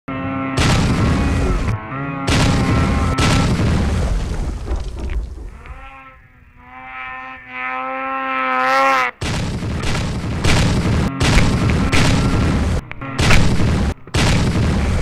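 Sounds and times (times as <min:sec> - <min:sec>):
snowmobile engine revving: 0:00.1 - 0:15.0
snowmobile ploughing through snow: 0:00.1 - 0:15.0.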